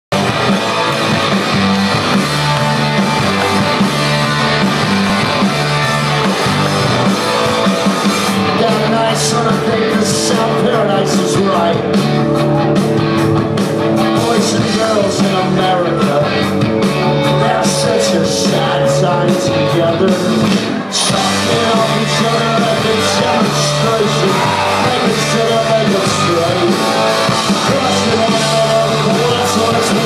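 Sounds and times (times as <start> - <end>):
rock band playing live: 0.1 - 30.0.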